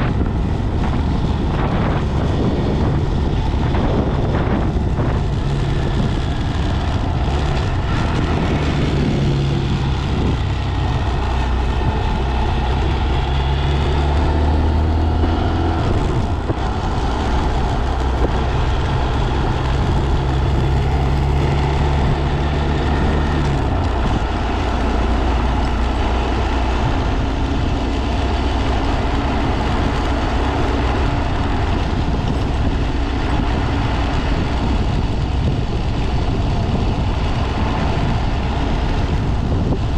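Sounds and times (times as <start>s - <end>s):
small motorcycle engine running: 0.0s - 39.9s
wind noise: 0.0s - 39.9s.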